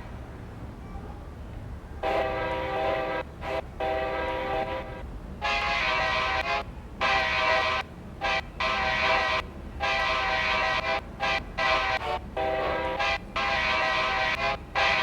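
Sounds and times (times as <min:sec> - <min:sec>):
locomotive horn blasts: 0:02.0 - 0:15.0.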